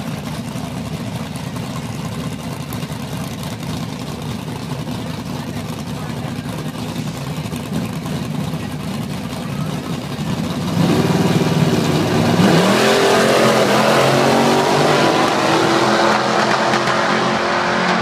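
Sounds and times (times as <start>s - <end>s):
drag racing cars accelerating: 0.0s - 18.0s.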